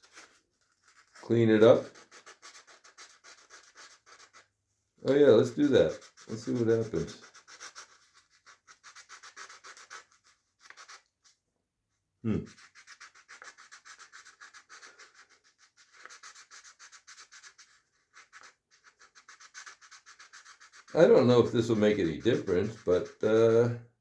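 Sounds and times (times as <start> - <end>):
sandpaper rasping on metal: 0.0 - 4.4, 5.1 - 11.0, 12.5 - 23.3.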